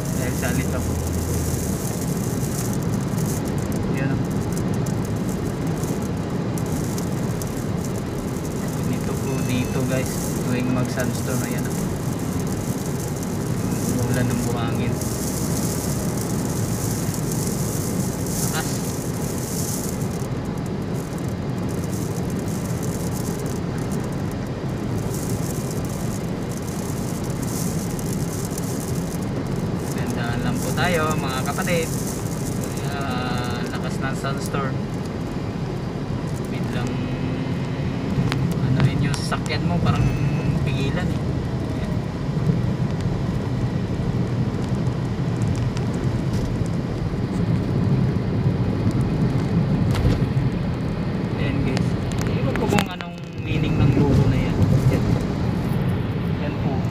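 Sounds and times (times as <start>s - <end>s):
road and wind noise in car: 0.0s - 56.9s.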